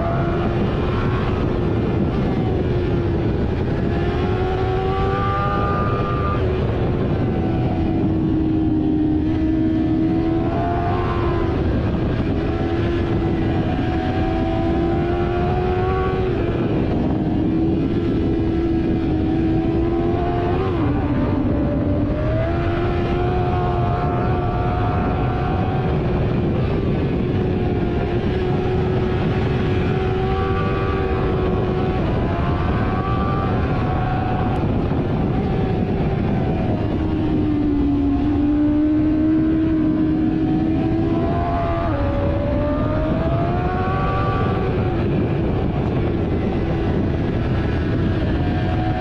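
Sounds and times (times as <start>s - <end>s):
heavy wind noise: 0.0s - 49.0s
motorcycle engine running: 0.0s - 49.0s.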